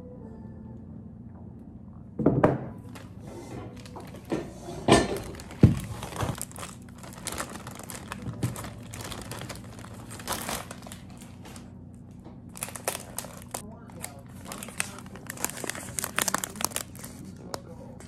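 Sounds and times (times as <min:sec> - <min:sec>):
plastic bag crinkling: 0:02.9 - 0:17.6.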